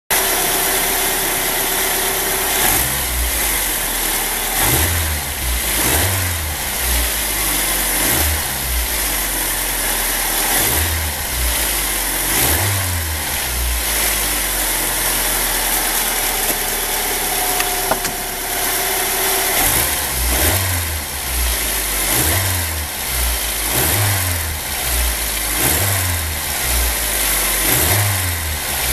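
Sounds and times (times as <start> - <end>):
car engine with leaking exhaust: 0.1 - 28.9.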